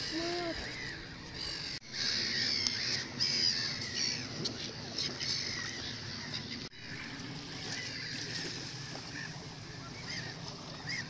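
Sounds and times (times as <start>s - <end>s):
gulls calling: 0.0s - 11.0s.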